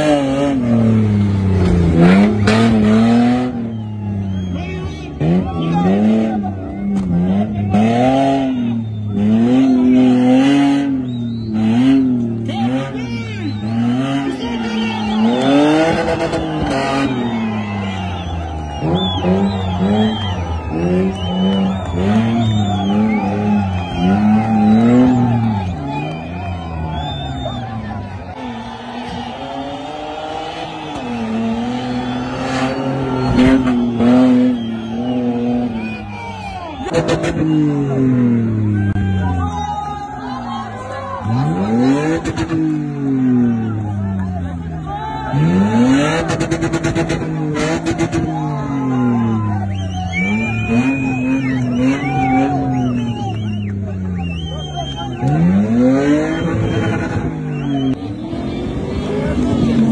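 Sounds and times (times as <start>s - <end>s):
engine revving hard: 0.0s - 36.1s, 36.8s - 39.2s, 41.2s - 59.9s.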